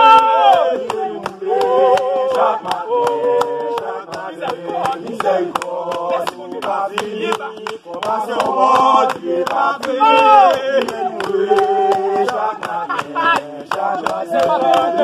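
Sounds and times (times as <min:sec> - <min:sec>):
group singing a worship song: 0:00.0 - 0:15.0
hand clapping: 0:00.0 - 0:15.0.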